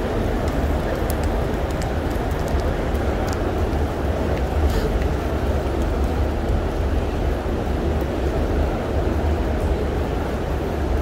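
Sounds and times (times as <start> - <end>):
background hubbub: 0.0 - 11.0.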